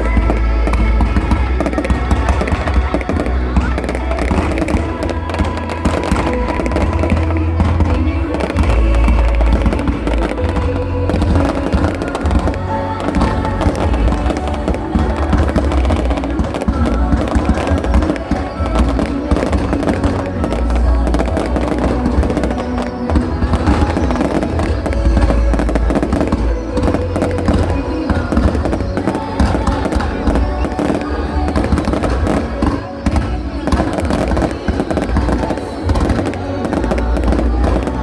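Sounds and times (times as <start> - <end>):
fireworks banging: 0.0 - 38.0
music through loudspeakers: 0.0 - 38.0.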